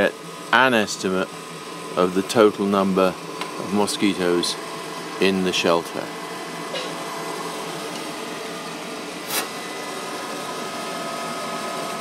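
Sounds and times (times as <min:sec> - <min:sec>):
aspirator fan hum and air rush: 0:00.0 - 0:12.0.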